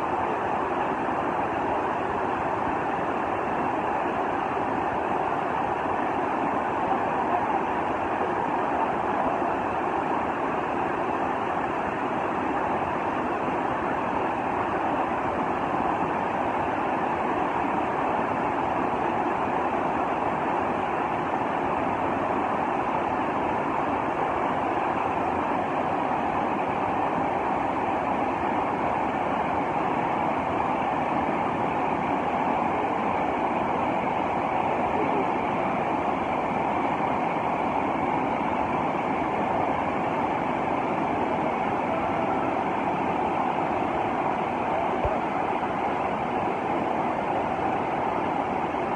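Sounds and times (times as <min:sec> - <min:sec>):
river rapids roaring: 0:00.0 - 0:48.9.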